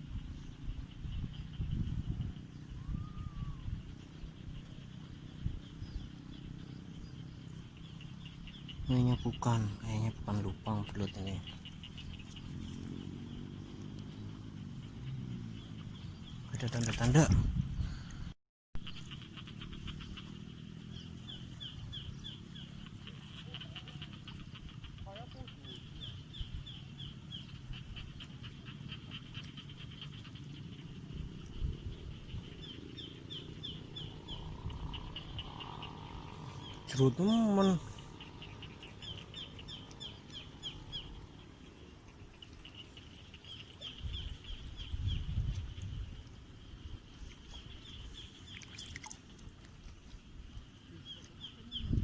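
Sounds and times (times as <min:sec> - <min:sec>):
small animal chirping: 0:00.9 - 0:17.4, 0:18.8 - 0:46.2.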